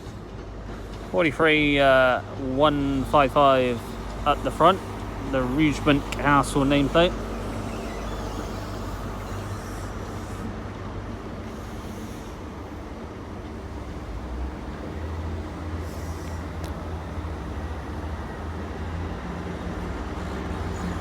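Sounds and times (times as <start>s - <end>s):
low diesel hum: 0.0s - 21.0s
train coaches rumbling past: 0.0s - 21.0s.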